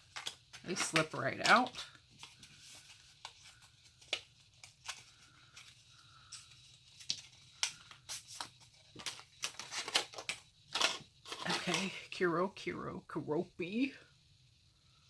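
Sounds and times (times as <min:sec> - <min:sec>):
plastic packaging rustling: 0:00.0 - 0:12.1.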